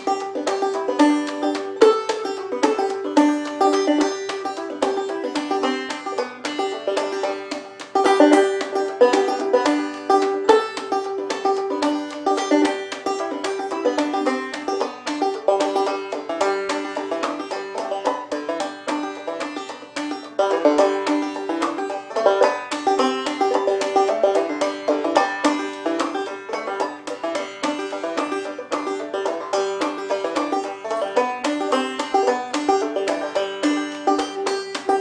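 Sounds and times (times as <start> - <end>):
fast bluegrass banjo music: 0.0 - 35.0.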